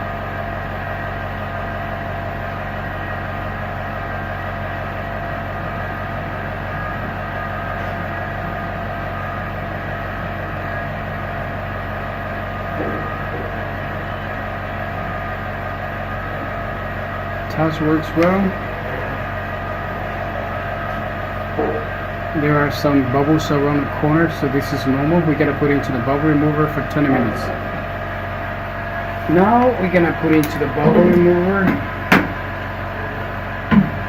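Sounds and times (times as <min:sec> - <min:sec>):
repair shop machine hum: 0:00.0 - 0:34.0.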